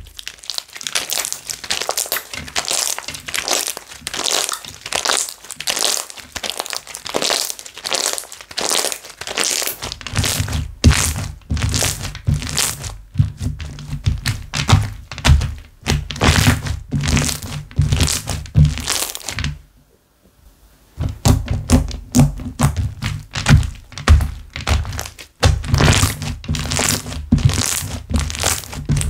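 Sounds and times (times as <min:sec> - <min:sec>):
slime squishing by hand: 0:00.0 - 0:19.6, 0:21.0 - 0:29.0.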